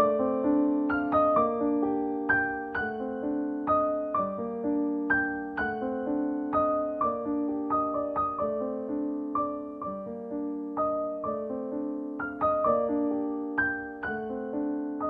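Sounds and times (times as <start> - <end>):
slow solo piano melody: 0.0 - 15.0.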